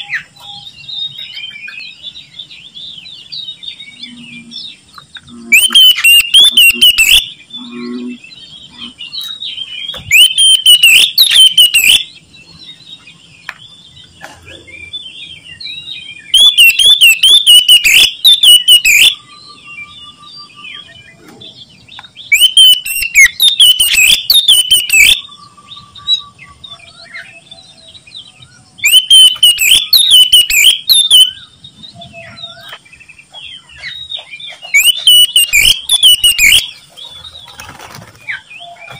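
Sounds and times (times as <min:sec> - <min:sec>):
faint bird chirping: 0:00.0 - 0:38.9
songbird singing loudly: 0:00.0 - 0:38.9.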